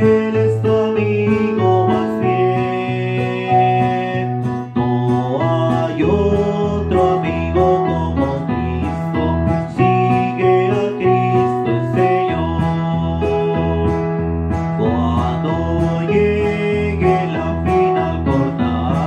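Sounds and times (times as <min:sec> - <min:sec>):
acoustic guitar: 0:00.0 - 0:19.0
electronic keyboard chords: 0:00.0 - 0:19.0.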